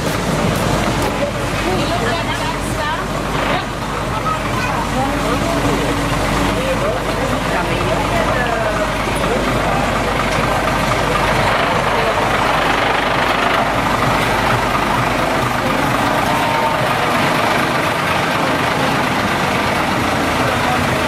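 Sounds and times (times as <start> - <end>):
truck diesel engine idling: 0.0 - 21.0.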